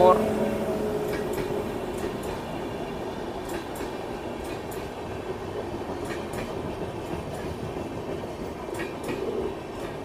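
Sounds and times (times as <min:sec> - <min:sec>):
train coaches rumbling past: 0:00.0 - 0:10.0.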